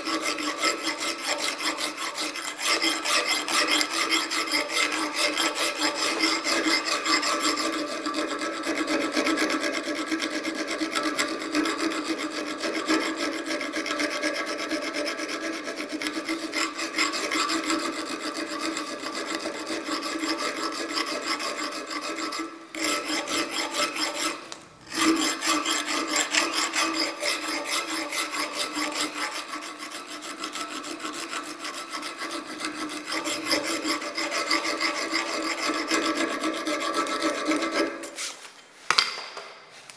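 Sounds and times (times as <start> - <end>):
file rasping on steel: 0.0 - 38.4.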